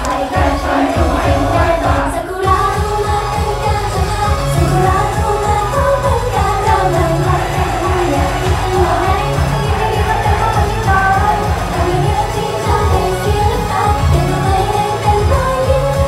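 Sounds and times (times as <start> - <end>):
pop backing track with beat: 0.0 - 16.0
women singing in unison: 0.0 - 16.0.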